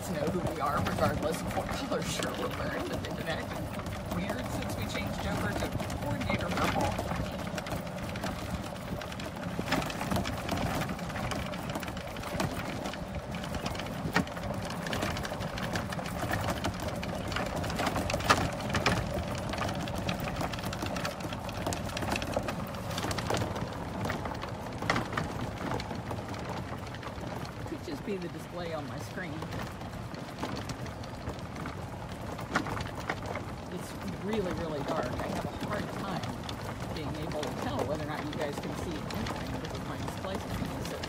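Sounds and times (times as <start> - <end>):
rattling: 0.0 - 41.0.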